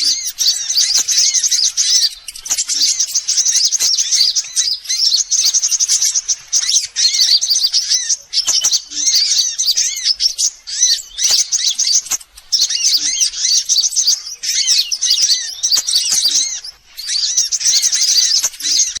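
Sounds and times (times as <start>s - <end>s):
high-pitched bird twittering: 0.0s - 19.0s.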